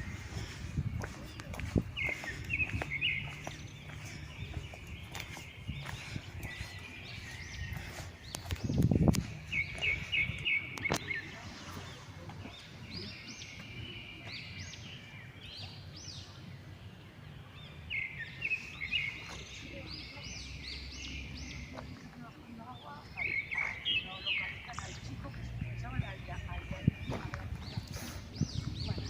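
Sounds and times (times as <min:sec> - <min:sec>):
small birds chirping and trilling: 0:00.0 - 0:29.0.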